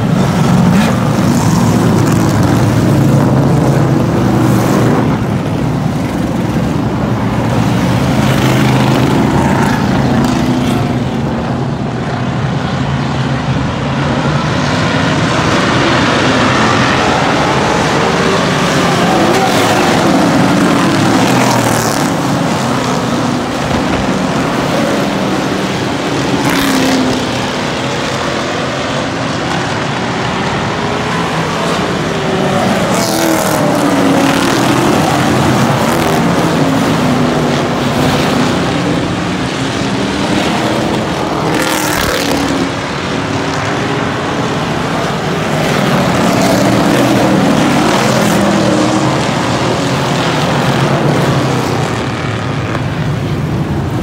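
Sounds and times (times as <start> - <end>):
race car engines at full throttle: 0.0 - 54.0.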